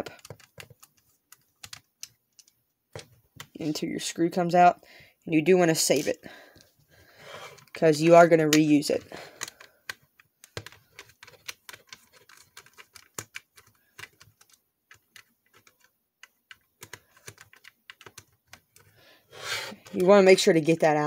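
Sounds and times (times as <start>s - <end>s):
hands handling plastic controller: 0.0s - 3.8s, 5.8s - 19.0s, 19.7s - 21.0s.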